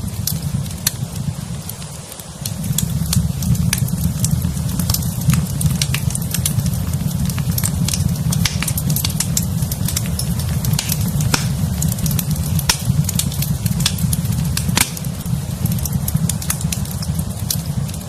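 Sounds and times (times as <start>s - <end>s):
fire crackling and popping: 0.0s - 18.0s
fire low rumble: 0.0s - 18.0s.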